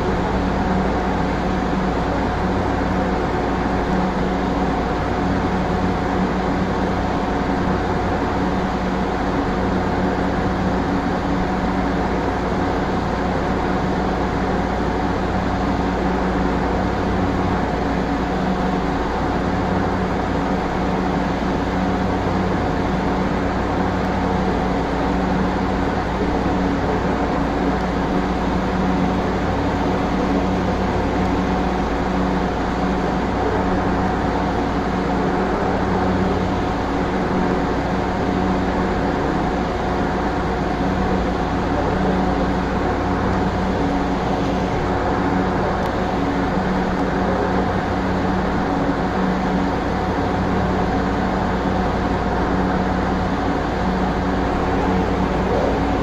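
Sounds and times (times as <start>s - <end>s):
constant hum: 0.0s - 56.0s.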